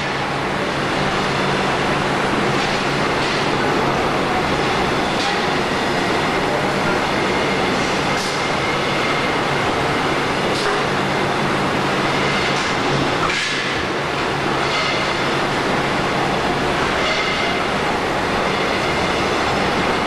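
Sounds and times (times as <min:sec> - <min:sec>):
roll forming machine running: 0:00.0 - 0:20.0.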